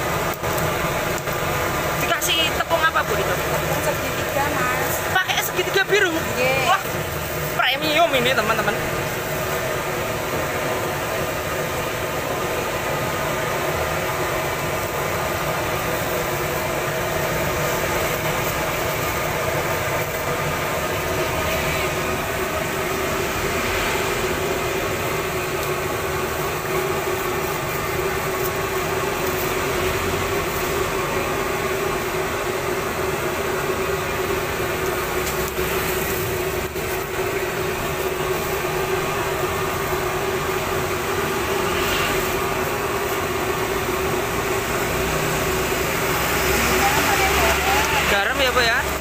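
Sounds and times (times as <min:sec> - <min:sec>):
gas burner roaring: 0:00.0 - 0:49.0.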